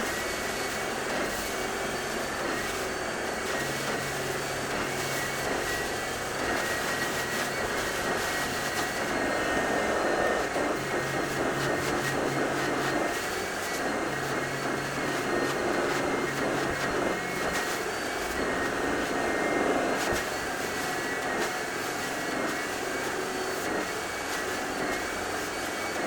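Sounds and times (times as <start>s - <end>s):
carpet cleaning machine whine: 0.0s - 26.0s.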